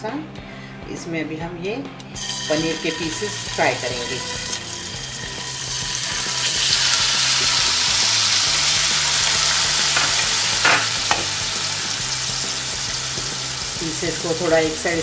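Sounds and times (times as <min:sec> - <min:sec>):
cheese cubes sizzling in oil: 0:02.2 - 0:15.0.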